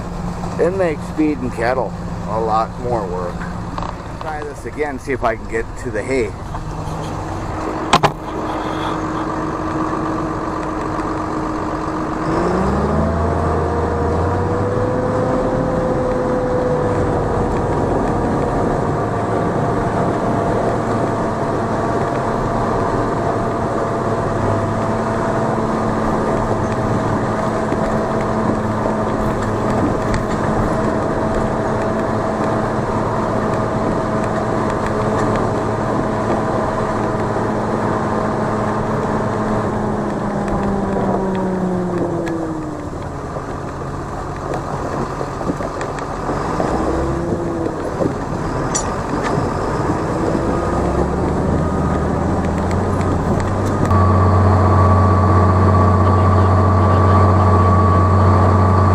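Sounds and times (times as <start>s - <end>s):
tractor engine revving: 0.0s - 58.9s.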